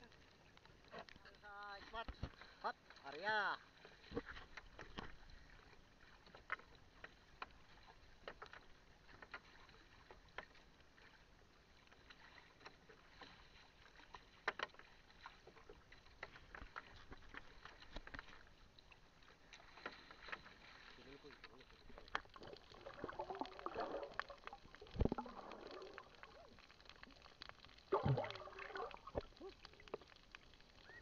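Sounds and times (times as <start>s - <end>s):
paddle strokes splashing: 1.8s - 26.9s.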